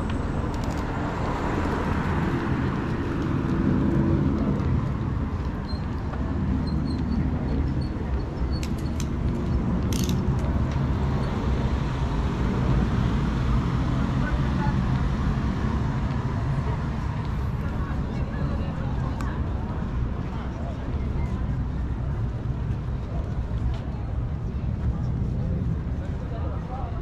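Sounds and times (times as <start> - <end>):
vehicles passing on street: 0.0 - 27.0.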